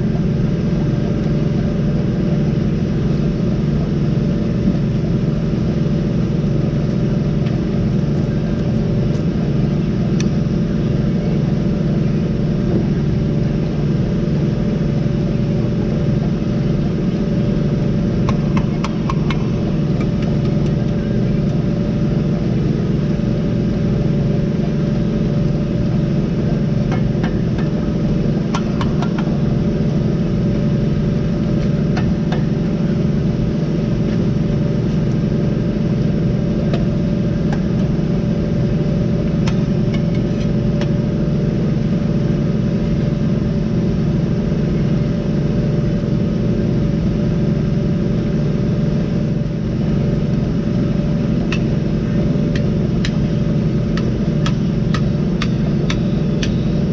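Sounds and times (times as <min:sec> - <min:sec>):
engine running steadily: 0:00.0 - 0:56.9.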